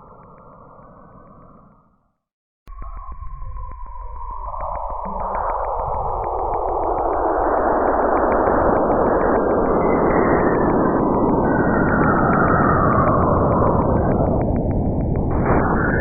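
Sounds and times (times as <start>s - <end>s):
faint evenly spaced ticks: 0.0s - 2.0s, 4.4s - 15.4s
gliding whistling tone: 2.8s - 16.0s.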